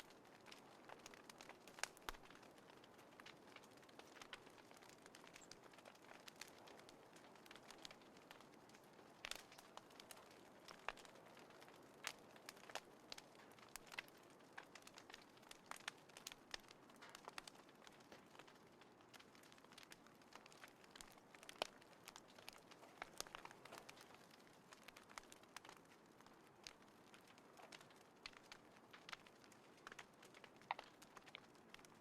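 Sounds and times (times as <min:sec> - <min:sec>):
soft fire hiss: 0:00.0 - 0:32.0
wood fire crackling and popping: 0:00.0 - 0:32.0.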